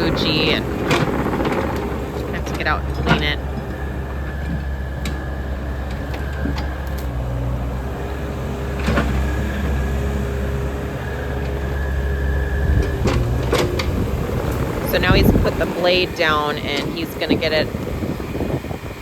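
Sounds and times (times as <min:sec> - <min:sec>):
excavator diesel engine running: 0:00.0 - 0:19.0
faint hydraulic whine: 0:00.0 - 0:19.0.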